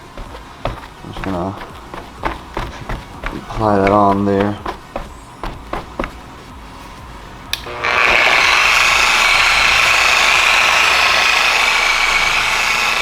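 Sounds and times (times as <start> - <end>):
electric polisher running: 0.0 - 6.2, 7.5 - 13.0.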